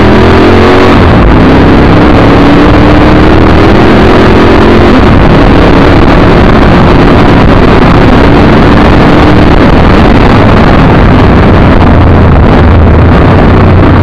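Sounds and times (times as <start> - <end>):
car engine at speed: 0.0 - 14.0
wind and tyre noise: 0.0 - 14.0.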